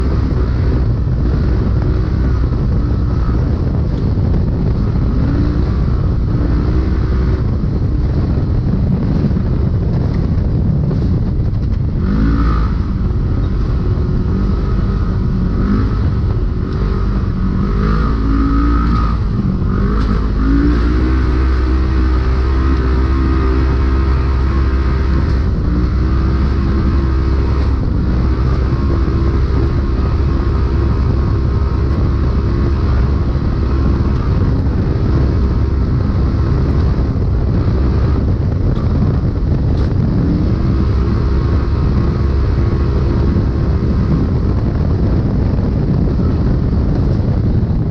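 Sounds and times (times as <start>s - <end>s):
engine revving: 0.0s - 47.9s.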